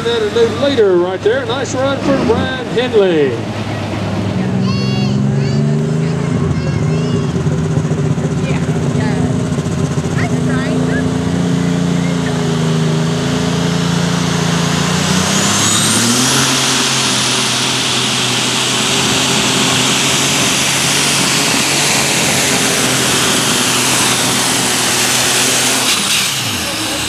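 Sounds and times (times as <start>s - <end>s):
diesel tractor engine at full power: 0.0s - 27.0s
high turbocharger whine: 0.0s - 27.0s.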